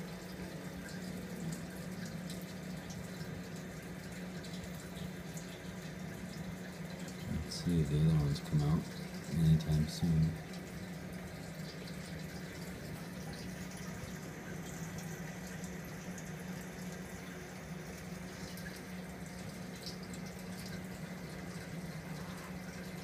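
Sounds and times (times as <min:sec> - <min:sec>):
low steady hum: 0:00.0 - 0:23.0
small water drips: 0:00.0 - 0:23.0
water trickling and splashing: 0:00.0 - 0:23.0.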